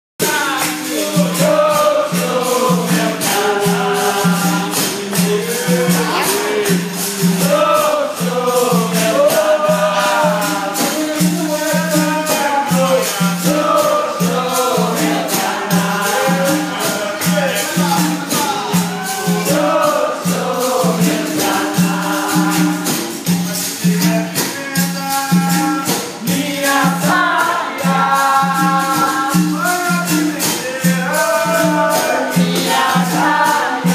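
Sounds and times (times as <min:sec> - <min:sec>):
berimbaus playing rhythm: 0:00.2 - 0:33.9
hand percussion: 0:00.2 - 0:33.9
voices singing: 0:00.2 - 0:33.9
shaken rattles: 0:00.3 - 0:33.9.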